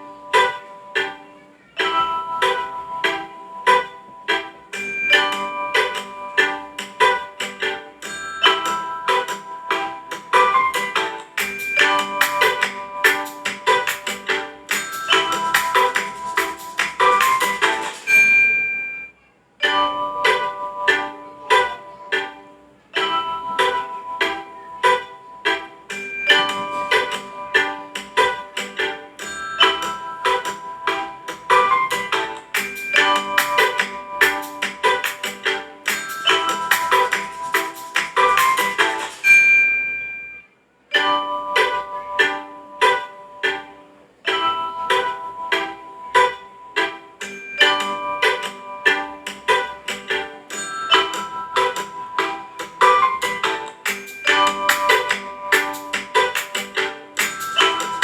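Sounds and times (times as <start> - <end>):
phone ringtone melody: 0.0 - 58.0.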